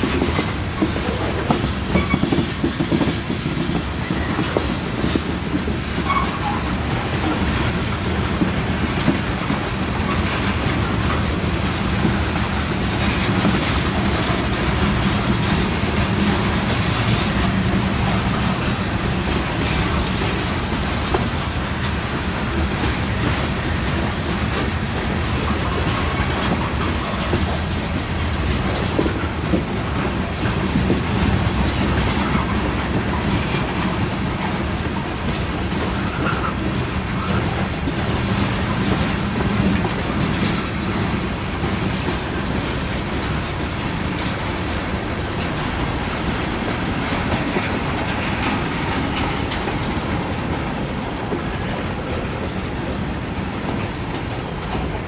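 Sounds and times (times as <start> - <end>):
train wheels rumbling on rail: 0.0 - 55.0
wheels clacking over rail joints: 0.0 - 55.0.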